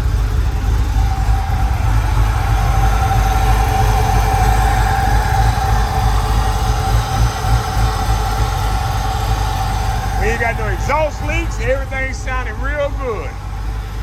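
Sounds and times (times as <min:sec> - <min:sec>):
car engine idling: 0:00.0 - 0:14.0
engine whine: 0:00.0 - 0:14.0.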